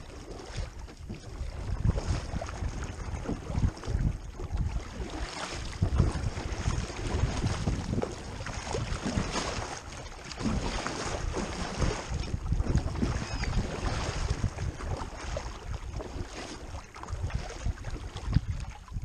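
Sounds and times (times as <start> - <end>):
paddle strokes splashing: 0.0 - 19.0
wind rumbling on microphone: 0.0 - 19.0.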